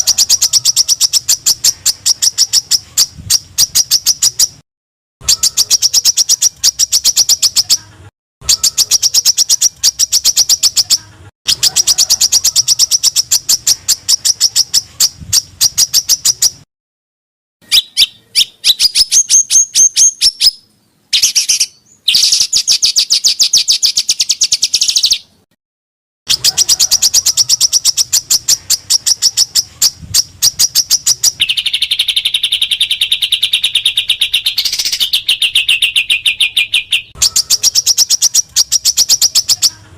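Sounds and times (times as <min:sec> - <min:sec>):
low buzzy bird trill: 0:00.0 - 0:04.6, 0:05.2 - 0:16.7, 0:17.6 - 0:25.5, 0:26.3 - 0:39.9
songbirds chirping rapidly: 0:00.0 - 0:04.6, 0:05.2 - 0:16.6, 0:17.6 - 0:25.4, 0:26.3 - 0:39.9.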